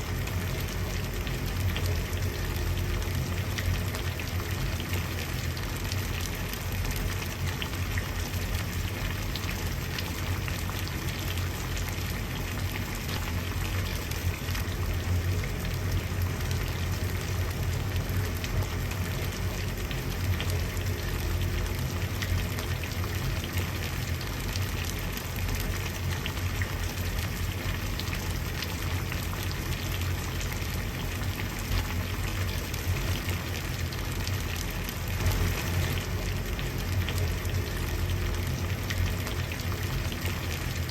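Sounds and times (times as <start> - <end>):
water boiling: 0.0 - 40.9.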